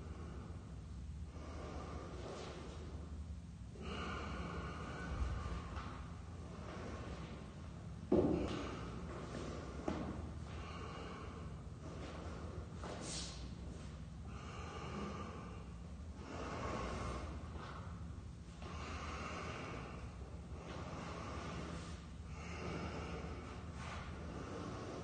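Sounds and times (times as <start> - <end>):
man breathing heavily: 0.0 - 25.0
steady low hum: 0.0 - 25.0.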